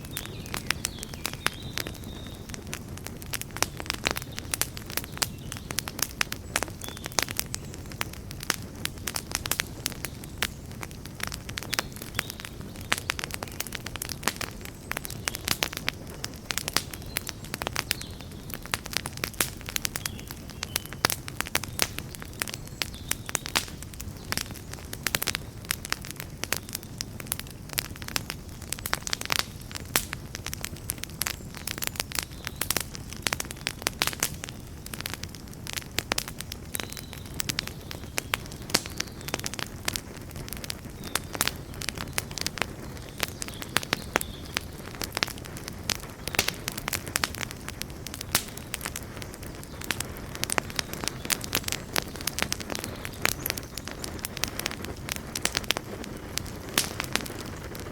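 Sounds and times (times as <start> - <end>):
campfire crackles and pops: 0.0 - 57.9
low rumble of flames: 0.0 - 57.9.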